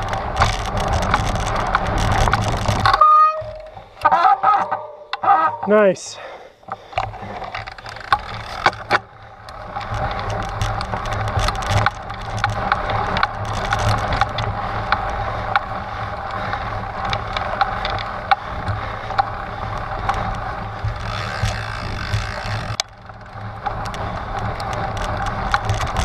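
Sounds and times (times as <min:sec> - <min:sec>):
bike tyres crunching on rocks: 0:00.0 - 0:04.6, 0:06.8 - 0:26.0
bike clicks and rattles: 0:00.0 - 0:05.9, 0:06.6 - 0:26.0.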